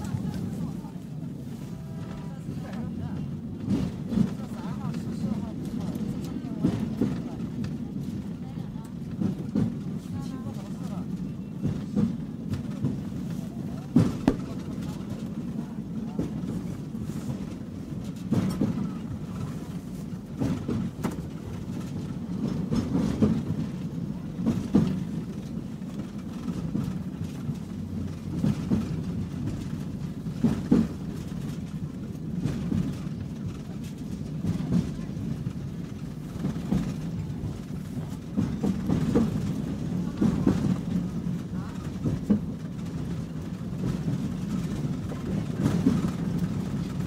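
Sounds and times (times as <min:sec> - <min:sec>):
tram clacks and knocks: 0:00.0 - 0:47.0
tram rumbling: 0:00.0 - 0:47.0.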